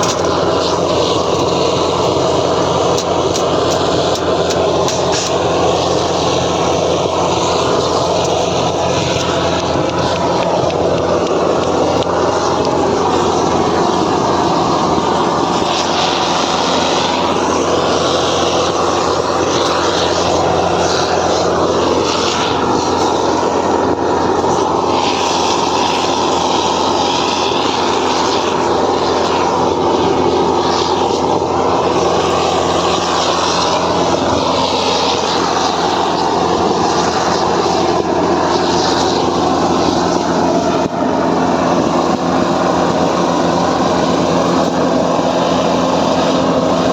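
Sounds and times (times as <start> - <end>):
burner roaring: 0.0 - 46.9
engine-like drone: 0.0 - 46.9.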